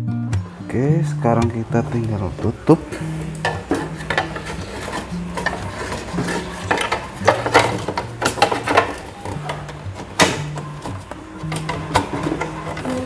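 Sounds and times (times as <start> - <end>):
metal computer case clattering: 1.9 - 13.0.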